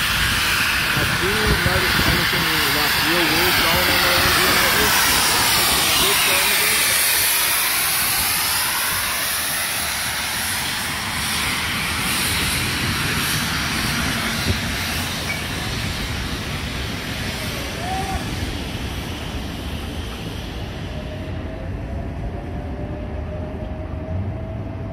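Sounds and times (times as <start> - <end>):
locomotive steam hiss: 0.0 - 21.6
train wheels rumbling on rails: 0.0 - 24.9.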